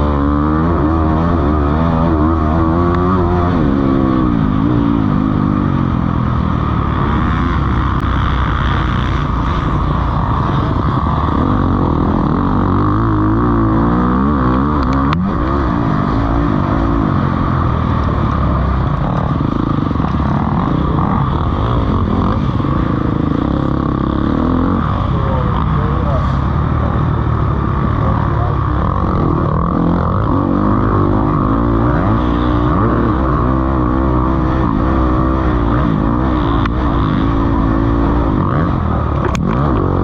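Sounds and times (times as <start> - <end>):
motocross bikes revving: 0.0 - 40.0.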